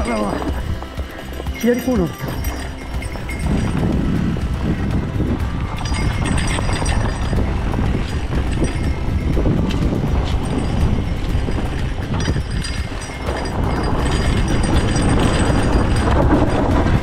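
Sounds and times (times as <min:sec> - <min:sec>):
bike tyres rumbling on dirt: 0:00.0 - 0:01.6, 0:02.4 - 0:17.0
bike rattling and knocking: 0:00.0 - 0:17.0
wind on microphone: 0:00.0 - 0:17.0.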